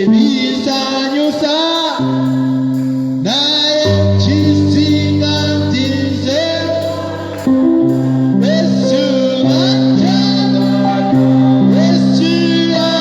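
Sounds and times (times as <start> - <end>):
instrumental backing: 0.0 - 13.0
voices singing a hymn: 0.0 - 13.0.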